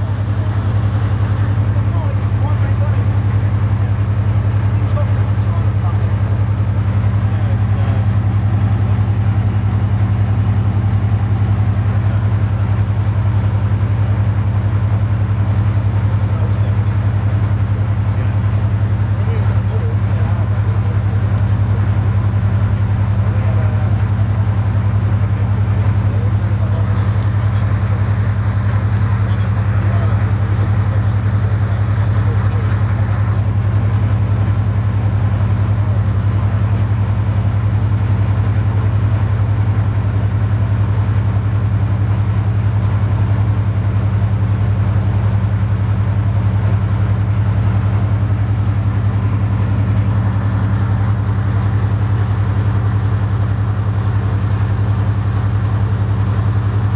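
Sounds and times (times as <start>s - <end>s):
diesel locomotive engine idling: 0.0s - 56.9s.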